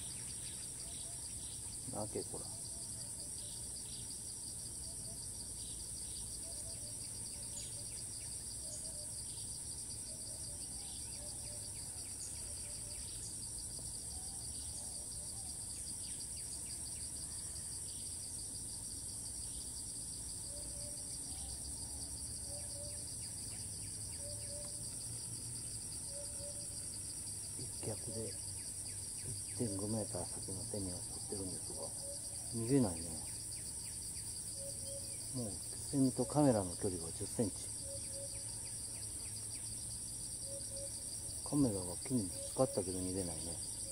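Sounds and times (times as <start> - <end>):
cicadas singing: 0.0 - 43.9.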